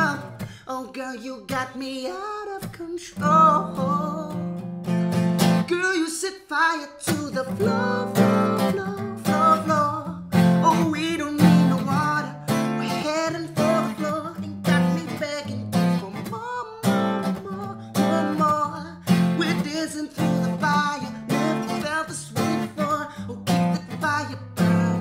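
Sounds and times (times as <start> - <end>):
acoustic guitar strumming: 0.0 - 0.6, 1.5 - 6.0, 7.0 - 25.0.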